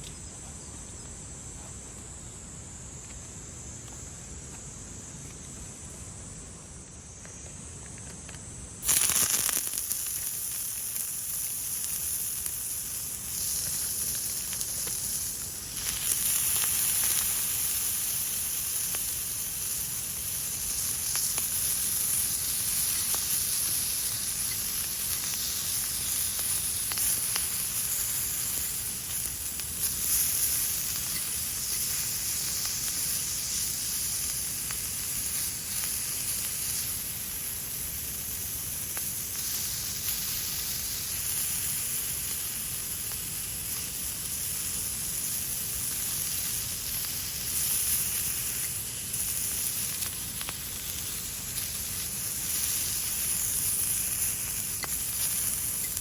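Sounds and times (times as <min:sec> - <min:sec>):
insects chirring: 0:00.0 - 0:56.0
food sizzling in a pan: 0:08.8 - 0:56.0.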